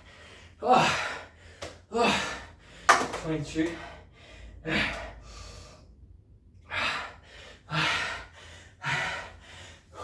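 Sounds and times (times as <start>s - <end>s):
man breathing hard and gasping: 0.0s - 3.0s, 3.7s - 10.0s.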